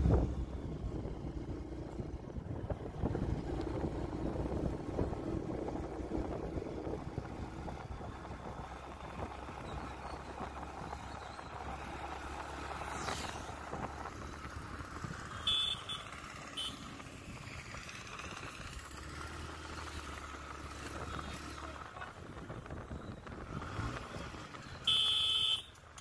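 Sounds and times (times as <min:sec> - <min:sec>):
road and wind noise: 0:00.0 - 0:26.0
vehicle engine hum: 0:00.0 - 0:26.0.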